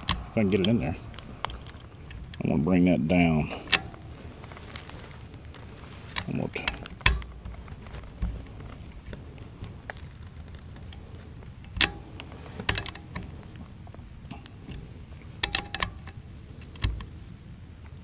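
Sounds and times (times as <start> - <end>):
small metallic clicks: 0.0 - 18.0.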